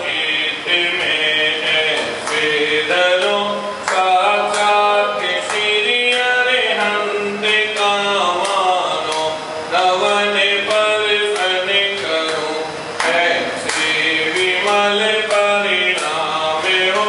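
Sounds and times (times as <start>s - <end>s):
men chanting a hymn: 0.0s - 17.0s.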